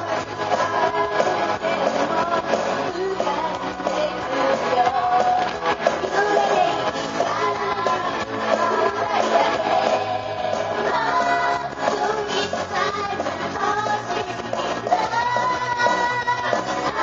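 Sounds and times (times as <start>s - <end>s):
karaoke singing: 0.0s - 17.0s
pop-rock backing track with guitar: 0.0s - 17.0s.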